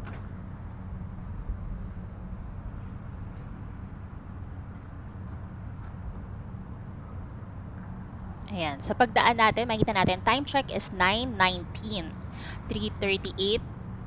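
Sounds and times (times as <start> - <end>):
car rolling hum and rumble: 0.0 - 14.0
faint high pulsing chirr: 0.0 - 14.0.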